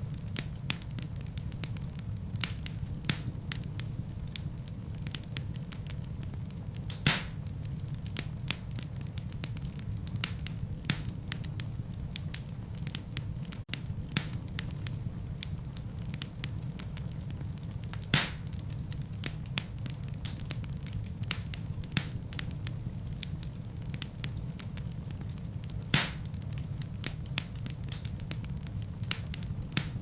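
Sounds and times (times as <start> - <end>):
fire burning with low rumble: 0.0 - 30.0
fire crackling: 0.0 - 30.0
fire popping: 0.0 - 30.0.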